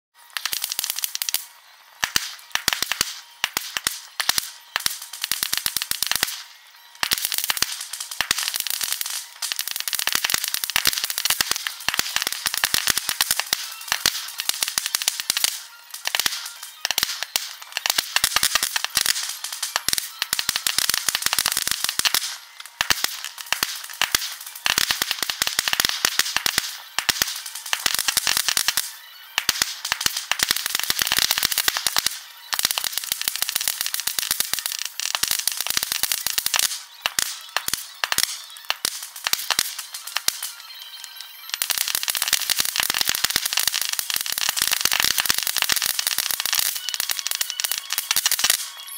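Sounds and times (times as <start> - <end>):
sped-up fireworks popping: 0.2 - 48.9.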